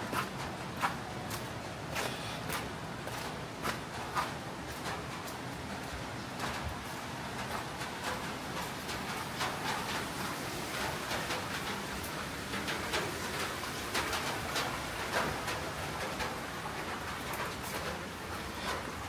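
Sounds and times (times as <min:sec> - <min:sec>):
steady rain hiss: 0:00.0 - 0:19.0
water drips and splashes: 0:00.1 - 0:19.0.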